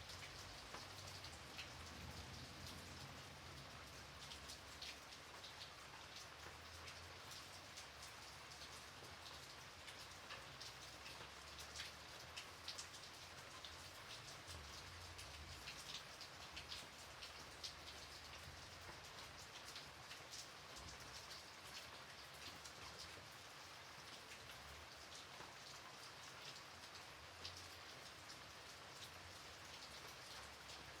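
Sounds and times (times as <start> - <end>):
light rain hissing: 0.0 - 31.0
raindrop ticks: 0.0 - 31.0.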